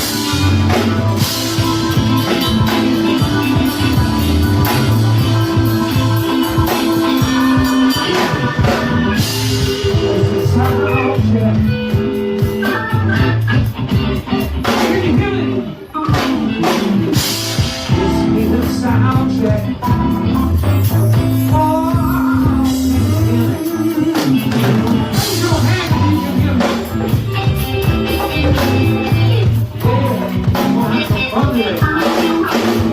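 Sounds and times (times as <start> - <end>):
live rock band playing: 0.0 - 32.9
person singing: 0.0 - 32.9.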